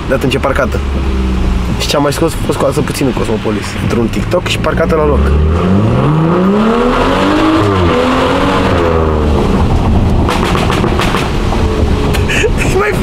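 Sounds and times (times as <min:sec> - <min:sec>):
car engine accelerating: 0:00.0 - 0:12.6.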